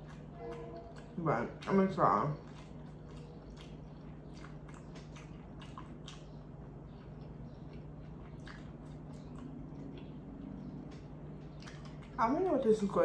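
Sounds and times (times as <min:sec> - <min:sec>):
mouth clicks and squishes: 0:00.0 - 0:12.5
steady low hum: 0:00.0 - 0:13.0
wet chewing: 0:00.0 - 0:13.0.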